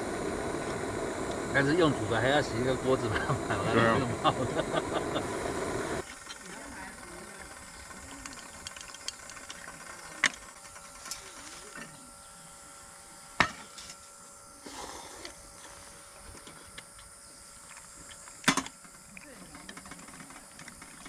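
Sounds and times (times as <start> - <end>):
electric fan whirring: 0.0 - 21.0.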